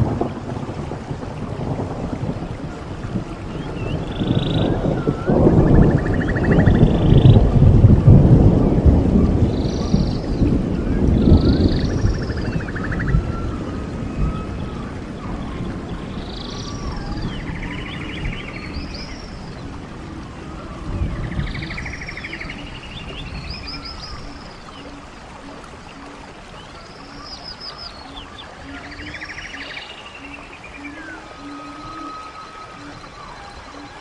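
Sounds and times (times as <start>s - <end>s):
running stream: 0.0s - 34.0s
songbird singing: 2.2s - 7.5s, 8.4s - 34.0s.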